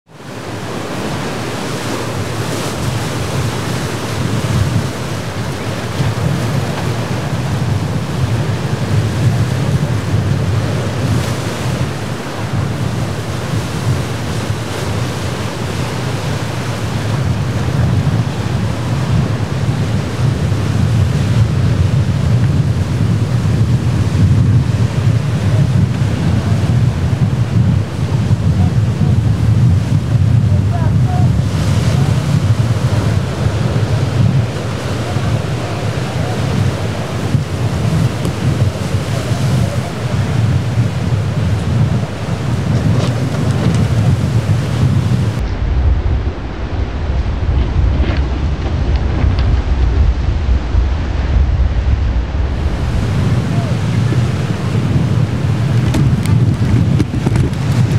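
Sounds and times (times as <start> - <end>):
waves breaking on rocks: 0.1 - 57.9
wind buffeting microphone: 0.1 - 57.9.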